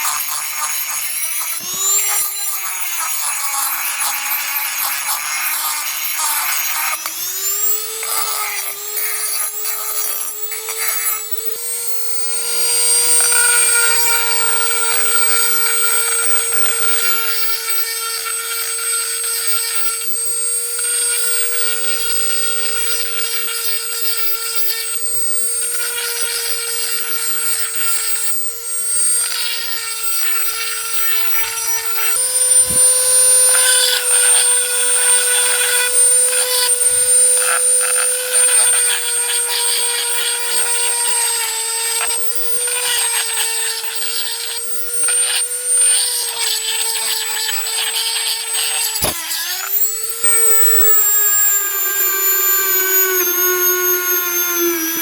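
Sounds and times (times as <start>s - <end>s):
electric power tool whining: 0.0s - 55.0s
tool rasping on iron: 0.0s - 55.0s.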